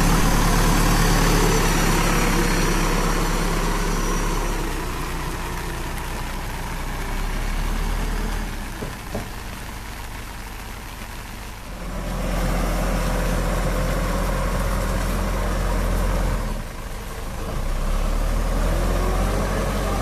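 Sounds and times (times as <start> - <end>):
diesel engine revving: 0.0 - 8.9, 11.5 - 20.0.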